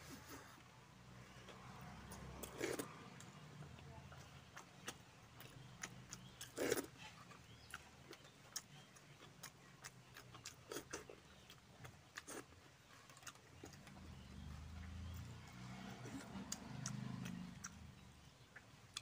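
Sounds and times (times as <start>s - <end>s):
chewing and lip-smacking: 1.3s - 19.0s.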